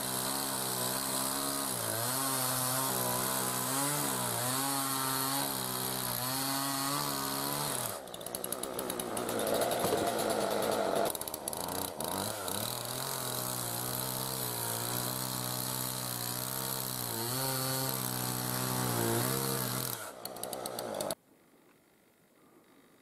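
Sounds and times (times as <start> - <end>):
chainsaw sawing logs: 0.0 - 21.2.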